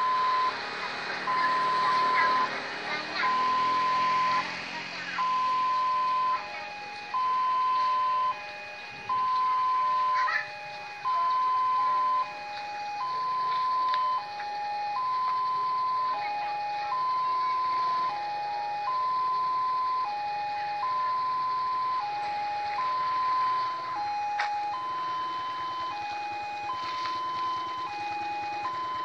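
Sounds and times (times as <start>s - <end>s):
two-tone level-crossing alarm: 0.0s - 29.0s.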